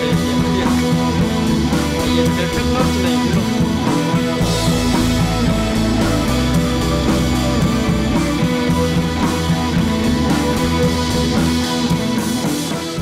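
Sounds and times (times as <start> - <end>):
guitar music with beat: 0.0 - 13.0.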